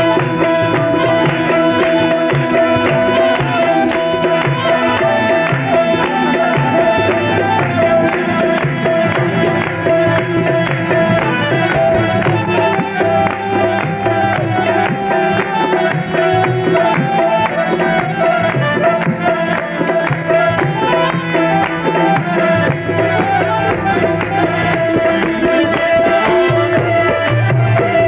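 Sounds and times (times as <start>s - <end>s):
harmonium and lute melody: 0.0s - 28.0s
tabla drumming: 0.0s - 28.0s.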